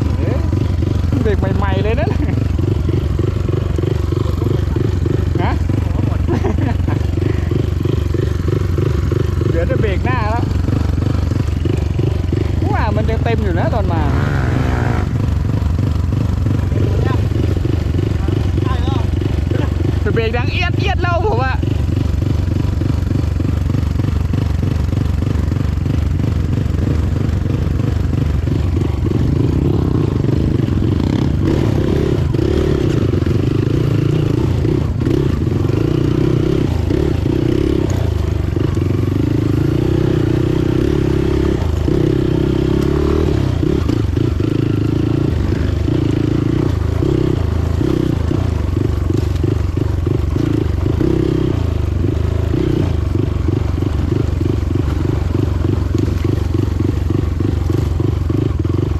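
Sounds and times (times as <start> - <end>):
motorcycle engine droning: 0.0 - 58.9.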